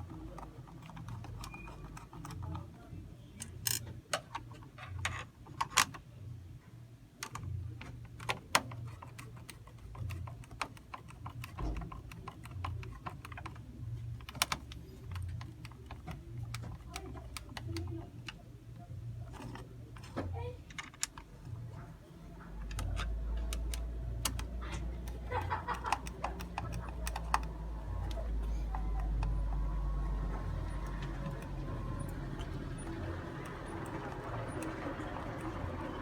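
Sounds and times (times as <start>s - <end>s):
screws and plastic parts clicking: 0.0s - 2.8s, 3.4s - 6.1s, 7.2s - 21.7s, 22.4s - 36.0s.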